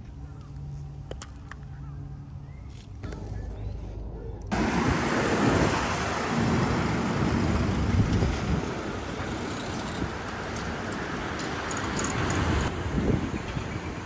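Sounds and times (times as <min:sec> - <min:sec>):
road traffic rushing: 0:02.0 - 0:14.0.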